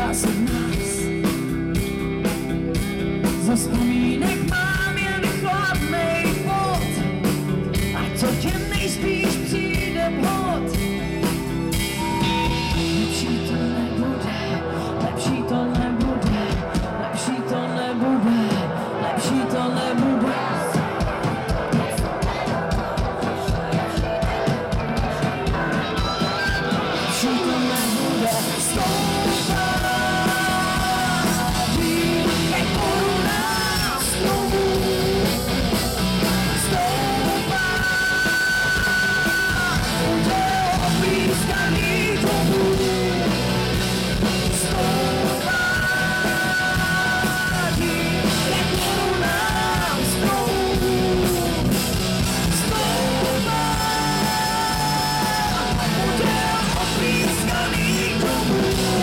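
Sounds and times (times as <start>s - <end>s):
rock band playing: 0.0s - 59.0s
woman singing into a microphone: 3.4s - 6.9s, 8.0s - 10.8s, 12.4s - 35.4s, 36.6s - 43.3s, 44.4s - 51.6s, 52.4s - 59.0s.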